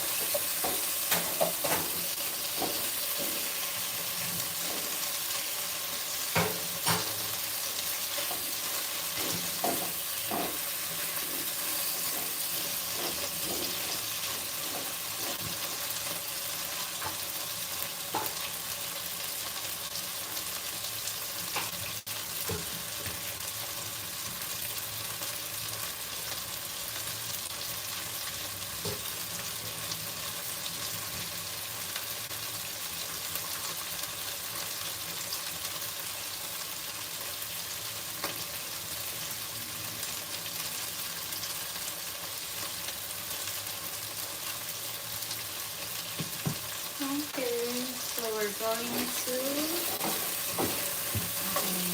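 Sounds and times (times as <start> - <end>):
chicken sizzling in oil: 0.0 - 51.9.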